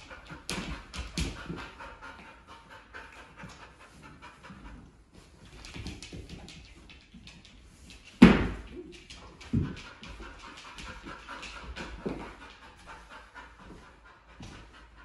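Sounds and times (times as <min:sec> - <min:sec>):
dog panting: 0:00.0 - 0:08.1, 0:08.7 - 0:15.0.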